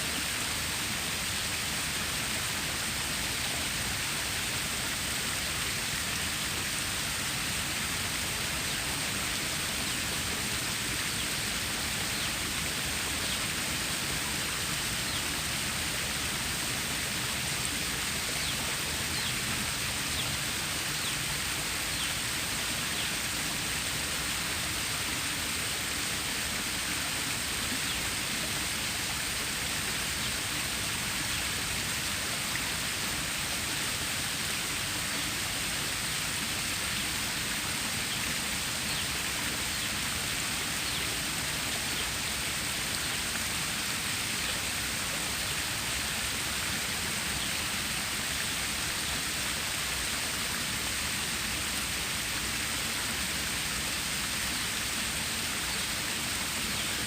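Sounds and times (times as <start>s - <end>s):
water stream rushing: 0.0s - 57.0s.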